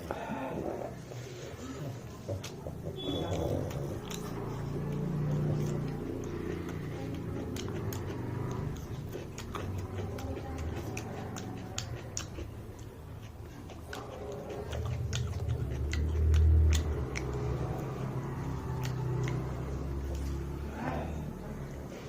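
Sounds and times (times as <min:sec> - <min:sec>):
person chewing food: 0:00.0 - 0:21.2.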